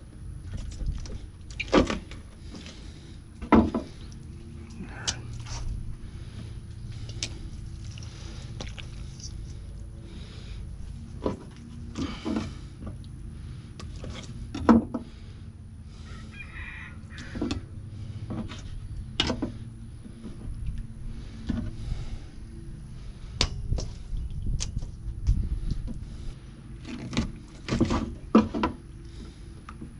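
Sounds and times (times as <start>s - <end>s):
steady low rumble: 0.0s - 29.9s.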